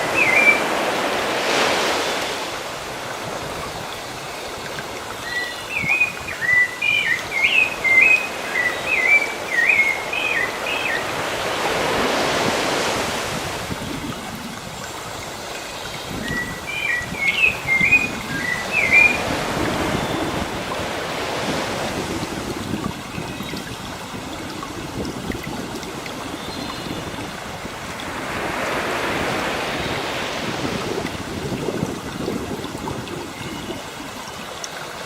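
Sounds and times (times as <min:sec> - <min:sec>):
sea waves washing on shore: 0:00.0 - 0:35.0.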